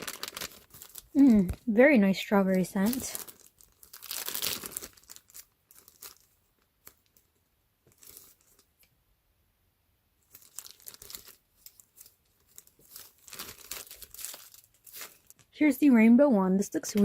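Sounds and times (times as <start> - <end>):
plastic packaging crinkling: 0.0 - 8.9, 10.2 - 15.5.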